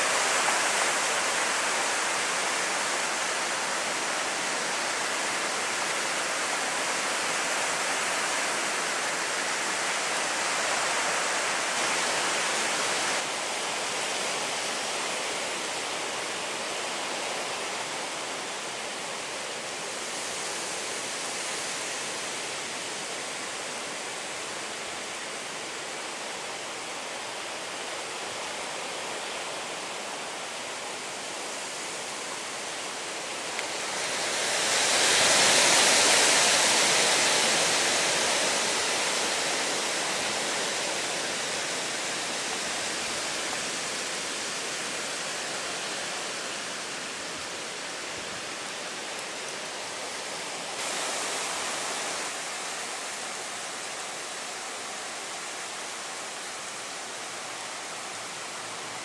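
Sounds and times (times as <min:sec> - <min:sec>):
storm rain and wind hiss: 0:00.0 - 0:59.0.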